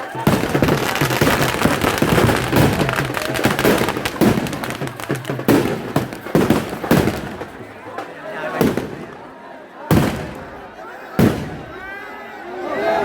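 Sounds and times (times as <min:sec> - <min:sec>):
firecracker bangs: 0:00.0 - 0:09.3, 0:09.9 - 0:11.8
firecrackers crackling rapidly: 0:00.0 - 0:11.8.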